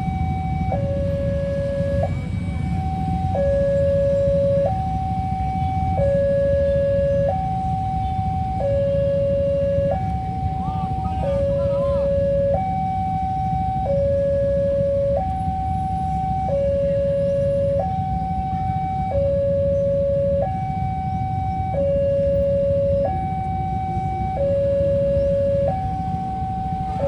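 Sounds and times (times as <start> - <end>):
two-tone level crossing alarm: 0.0 - 27.0.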